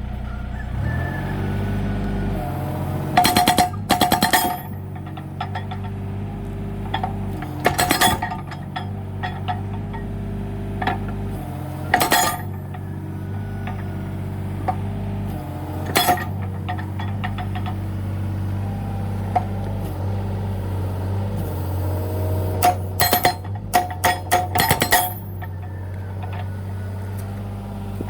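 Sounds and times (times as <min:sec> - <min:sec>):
excavator engine running: 0:00.0 - 0:28.0
hydraulic breaker hammering: 0:02.4 - 0:20.1, 0:21.3 - 0:28.0.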